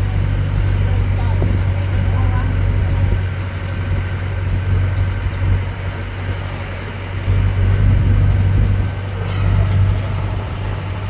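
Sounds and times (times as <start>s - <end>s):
low engine hum: 0.0s - 11.0s
road noise: 0.0s - 11.0s.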